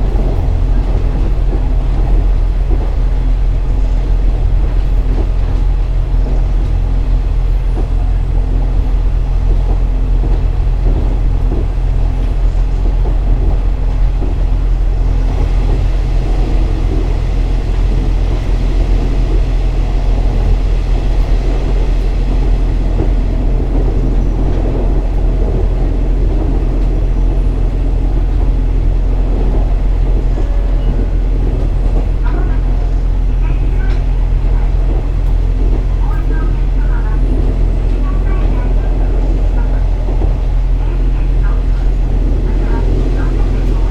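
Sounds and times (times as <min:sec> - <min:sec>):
diesel railcar engine drone: 0:00.0 - 0:43.9.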